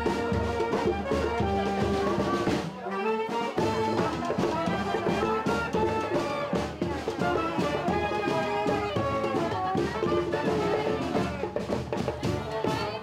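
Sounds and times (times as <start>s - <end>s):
brass band playing: 0.0s - 11.6s.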